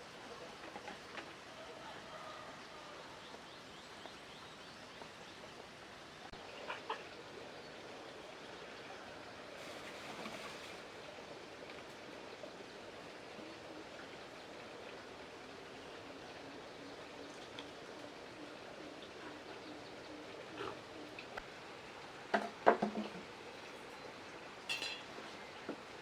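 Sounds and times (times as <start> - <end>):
faint outdoor background noise: 0.0 - 26.0.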